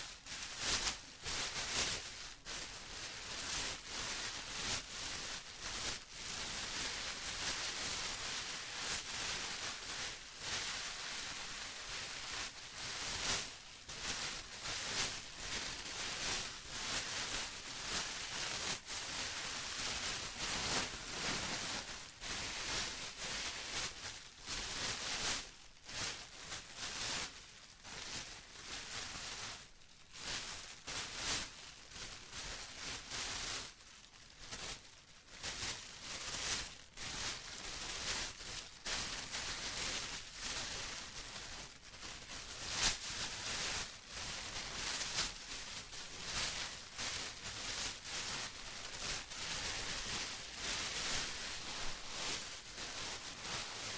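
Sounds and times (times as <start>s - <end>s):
plastic rustling and crinkling: 0.0s - 53.9s.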